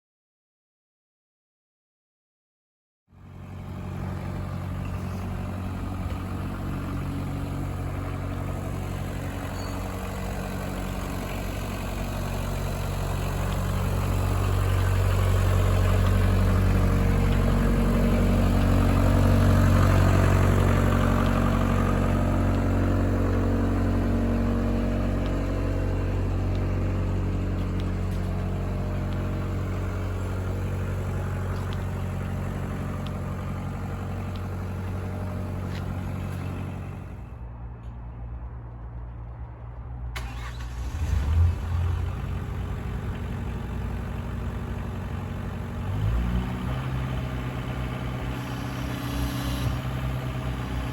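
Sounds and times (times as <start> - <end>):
diesel engine running: 3.1 - 50.9.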